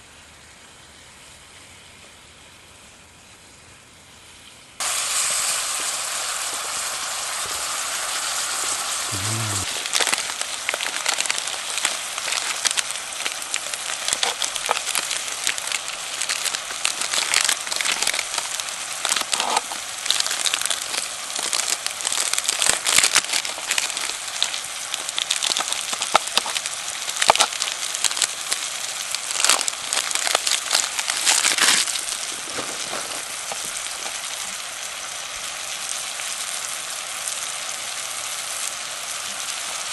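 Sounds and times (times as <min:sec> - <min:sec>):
campfire crackles and pops: 0:04.8 - 0:39.9
food sizzling in a pan: 0:04.8 - 0:39.9.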